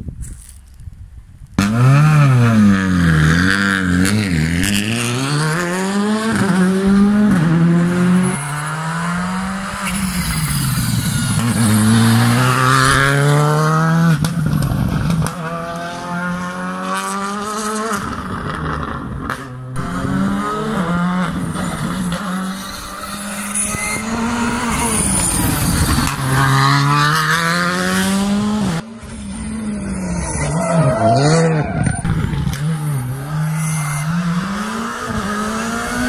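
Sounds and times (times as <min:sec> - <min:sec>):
rally car engine revving: 0:01.6 - 0:36.0.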